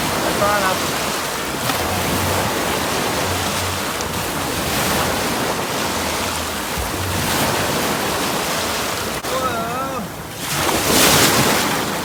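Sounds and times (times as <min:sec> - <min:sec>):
waves washing and splashing: 0:00.0 - 0:12.0.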